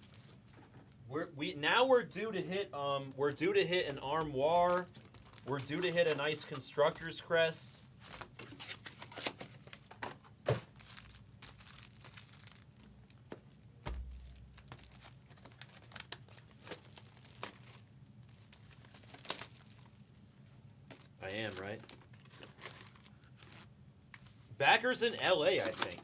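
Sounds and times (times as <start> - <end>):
card pack wrappers crinkling: 0.0 - 0.5, 3.0 - 26.0.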